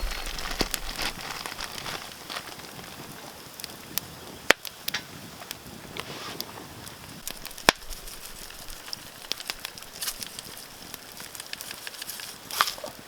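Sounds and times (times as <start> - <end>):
campfire crackling and popping: 0.0 - 13.0
low fire hiss: 0.0 - 13.0.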